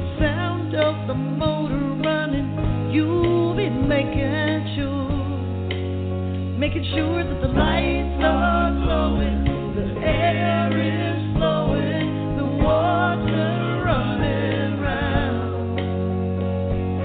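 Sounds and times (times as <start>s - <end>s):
song with singing voice: 0.0s - 17.0s.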